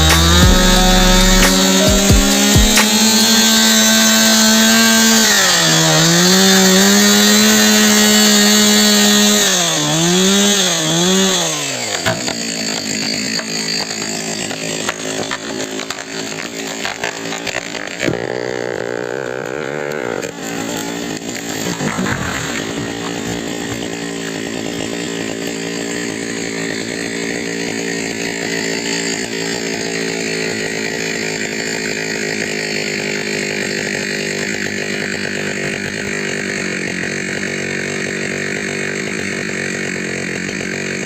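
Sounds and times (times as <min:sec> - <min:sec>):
chainsaw cutting at high revs: 0:00.0 - 0:41.0.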